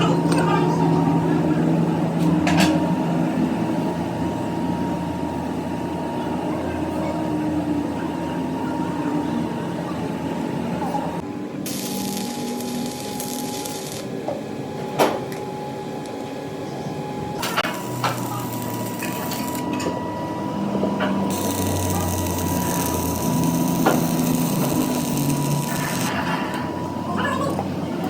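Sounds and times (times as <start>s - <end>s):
workshop machinery running: 0.0s - 28.0s.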